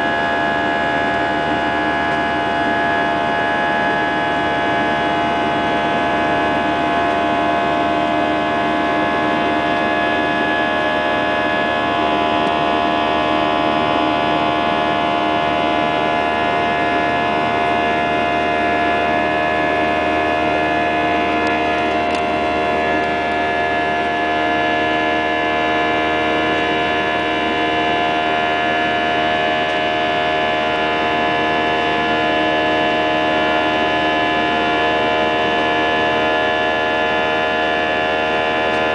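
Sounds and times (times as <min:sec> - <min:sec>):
jet engines in aircraft cabin: 0:00.0 - 0:38.9.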